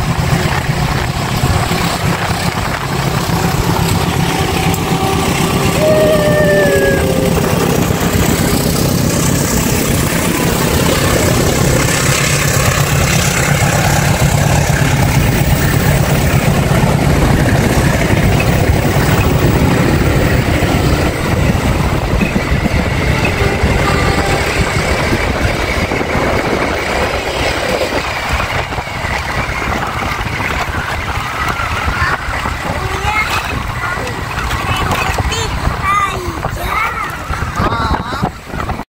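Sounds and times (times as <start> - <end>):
diesel locomotive engine humming: 0.0 - 38.8
train wheels on rails: 0.0 - 38.8.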